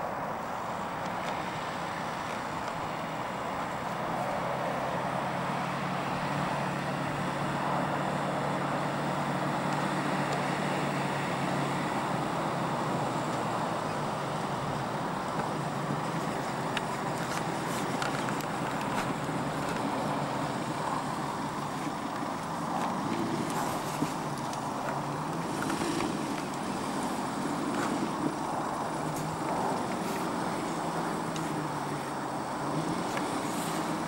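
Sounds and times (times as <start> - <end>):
vehicle engine running: 1.0 - 34.0.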